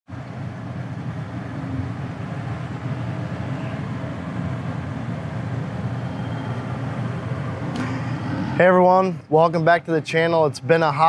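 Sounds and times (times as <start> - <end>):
diesel engine idling: 0.2 - 9.3.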